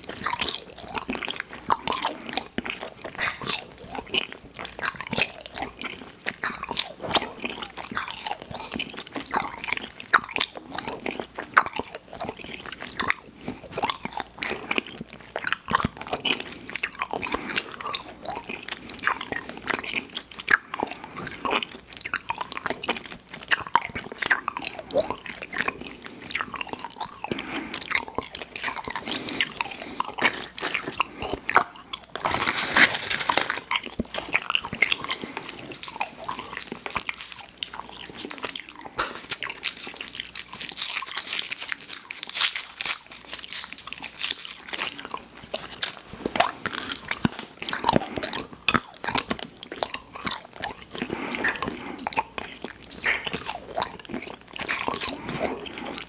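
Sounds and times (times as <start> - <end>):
chewing and biting sweets: 0.0 - 56.0.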